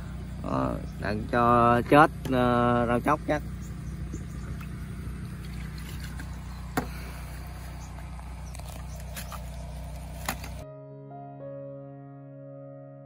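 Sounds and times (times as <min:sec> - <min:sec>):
low motor hum: 0:00.0 - 0:10.6.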